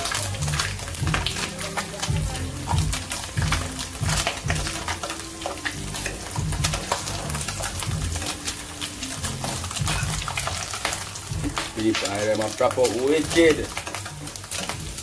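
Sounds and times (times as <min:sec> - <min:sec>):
bacon sizzling in a frying pan: 0:00.0 - 0:15.0.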